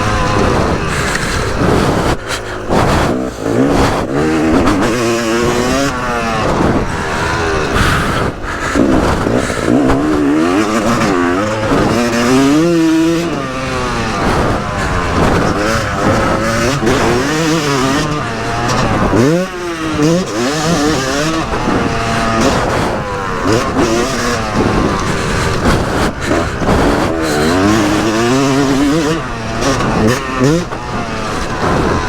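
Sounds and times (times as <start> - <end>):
motocross bike engine revving: 0.0 - 32.0.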